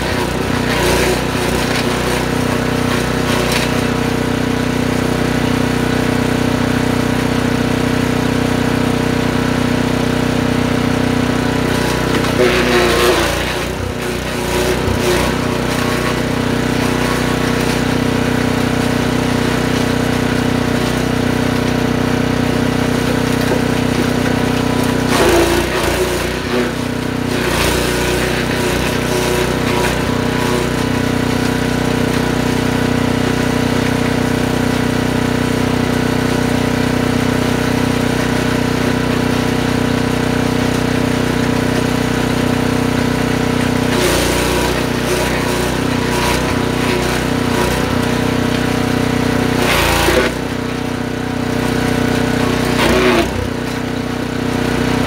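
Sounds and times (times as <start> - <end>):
wood chipper engine running: 0.0 - 55.0.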